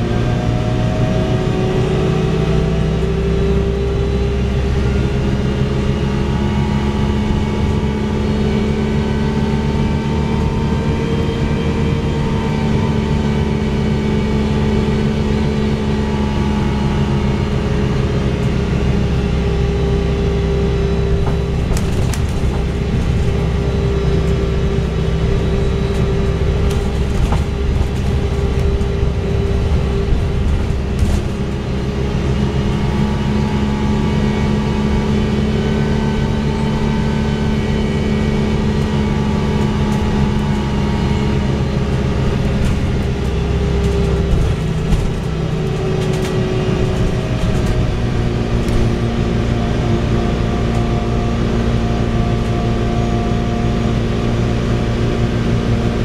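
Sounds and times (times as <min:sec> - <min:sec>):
bus diesel engine revving: 0:00.0 - 0:56.0.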